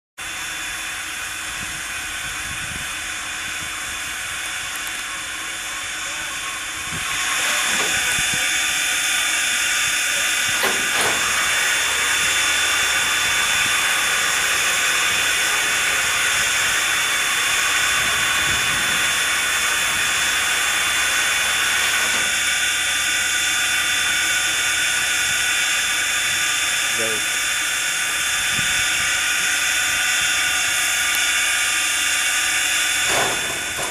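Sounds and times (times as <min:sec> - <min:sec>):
steam locomotive hissing: 0:00.2 - 0:33.9.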